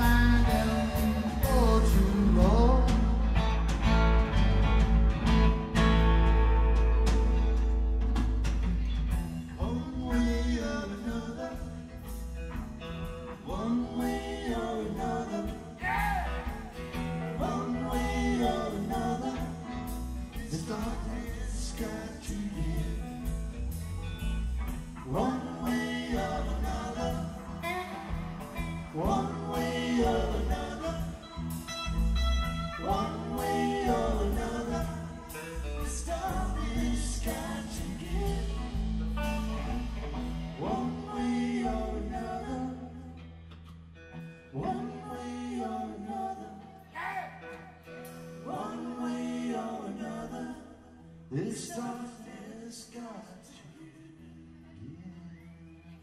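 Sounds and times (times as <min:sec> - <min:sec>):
live blues rock band: 0:00.0 - 0:46.3.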